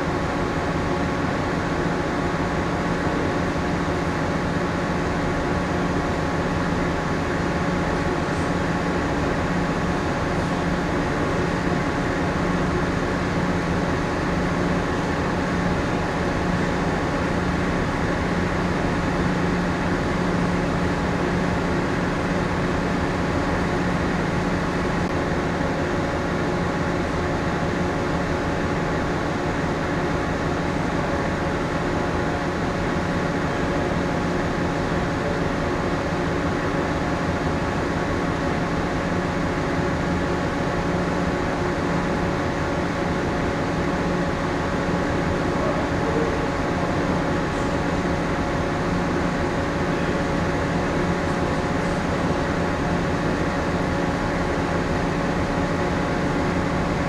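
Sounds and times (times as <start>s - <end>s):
ship machinery hum: 0.0s - 57.0s.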